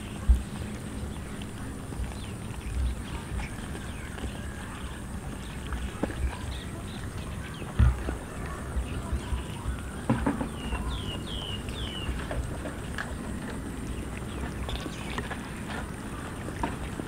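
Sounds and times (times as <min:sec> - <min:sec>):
cats chewing and lapping: 0:00.0 - 0:17.0.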